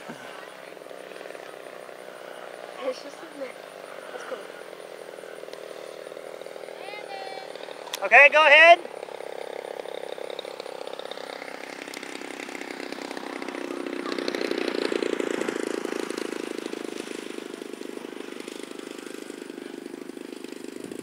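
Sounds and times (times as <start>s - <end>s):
model airplane engine buzzing: 0.0s - 21.0s.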